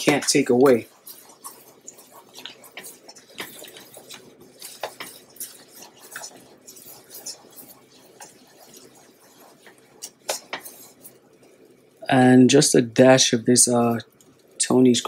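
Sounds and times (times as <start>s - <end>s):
whisk scraping saucepan: 0.0s - 15.0s.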